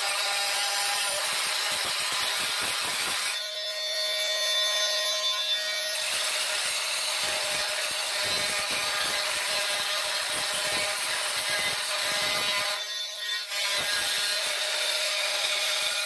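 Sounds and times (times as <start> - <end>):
multi-tool scraping grout: 0.0 - 16.0.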